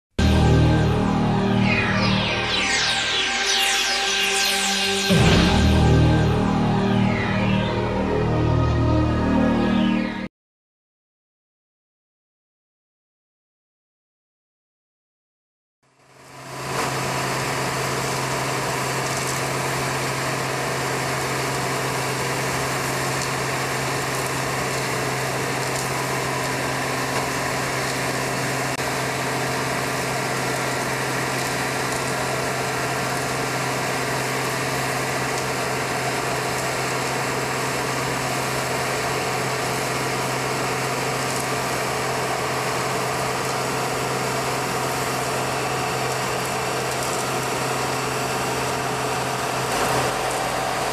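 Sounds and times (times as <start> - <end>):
machinery drone: 0.1 - 10.3, 16.4 - 50.9.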